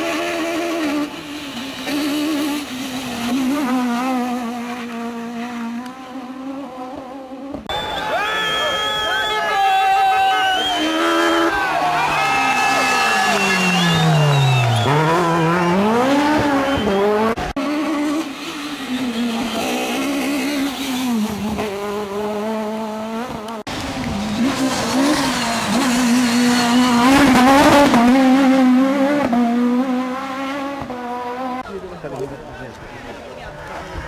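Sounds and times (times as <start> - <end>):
rally car engine revving: 0.0 - 7.7, 10.5 - 31.7.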